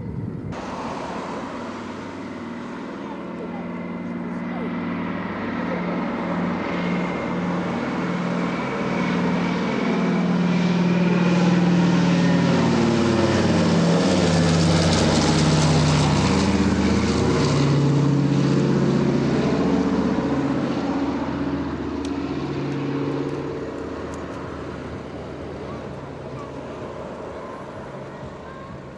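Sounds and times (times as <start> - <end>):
propeller aircraft engine drone: 0.0 - 28.9.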